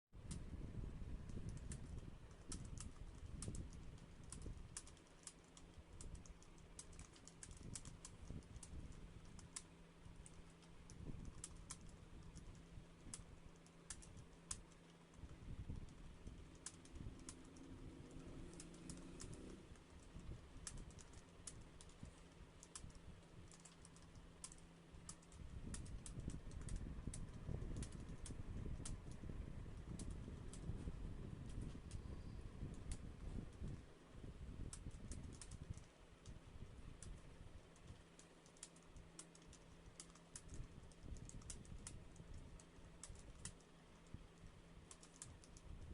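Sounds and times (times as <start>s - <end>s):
faint low hum: 0.2s - 45.9s
fast keyboard typing: 1.1s - 30.7s, 34.7s - 35.9s, 37.0s - 45.8s.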